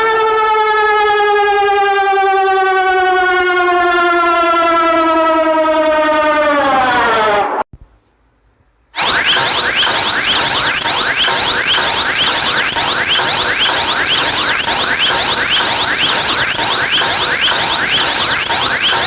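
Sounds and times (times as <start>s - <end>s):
emergency alert siren wailing: 0.0s - 7.6s, 9.0s - 19.0s.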